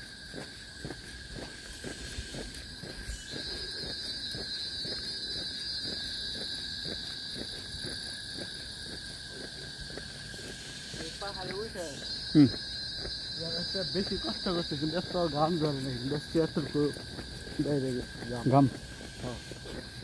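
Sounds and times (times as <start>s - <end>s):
footsteps on paved path: 0.0s - 20.0s
insects buzzing: 0.0s - 20.0s.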